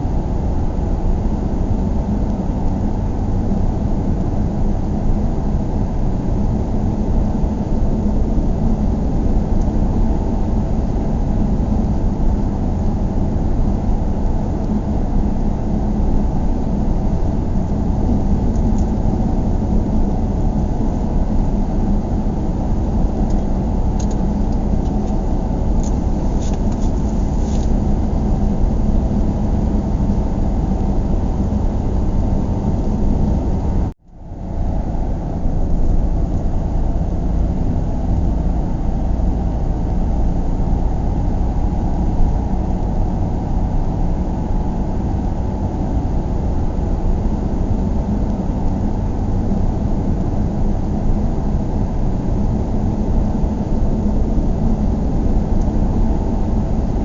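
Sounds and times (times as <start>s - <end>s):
car cabin road and engine rumble: 0.0s - 57.0s.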